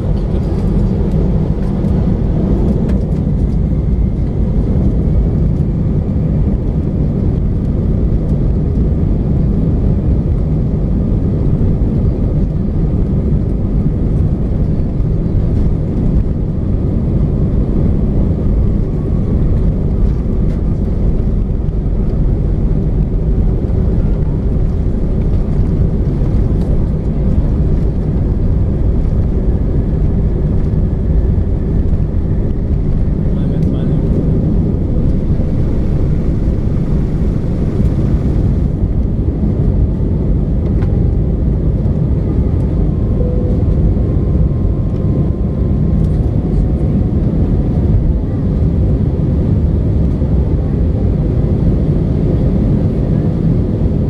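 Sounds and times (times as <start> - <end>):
faint engine whine: 0.0 - 54.0
jet engines roaring: 0.0 - 54.0.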